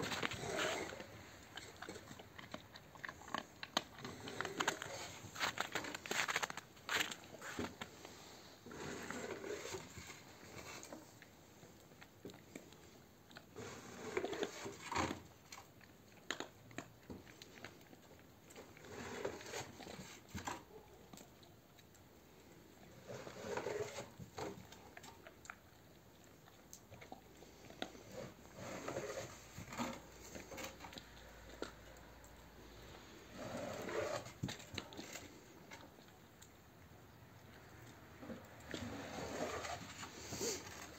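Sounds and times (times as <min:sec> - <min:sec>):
dog chewing a bone: 0:00.0 - 0:40.9.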